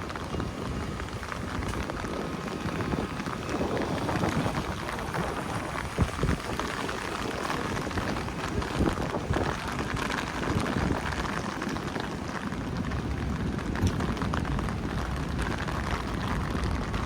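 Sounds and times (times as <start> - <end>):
rain spattering on wet surfaces: 0.0 - 17.0.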